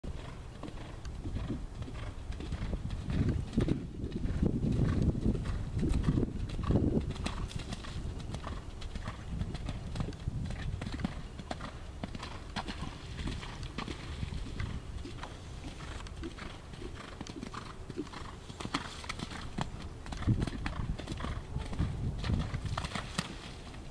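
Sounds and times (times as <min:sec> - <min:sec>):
horse hoofbeats on sand: 0:00.1 - 0:23.9.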